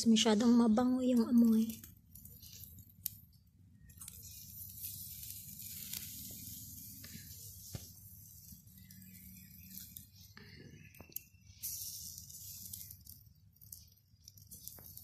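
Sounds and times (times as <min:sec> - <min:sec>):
meat sizzling on a grill: 0:01.4 - 0:15.0.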